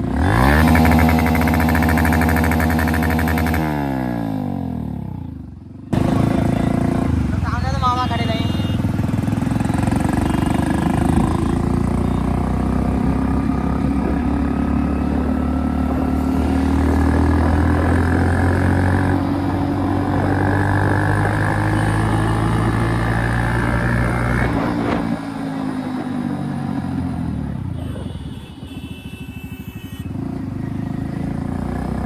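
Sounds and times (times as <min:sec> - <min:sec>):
motorcycle engine running loud: 0:00.0 - 0:28.2.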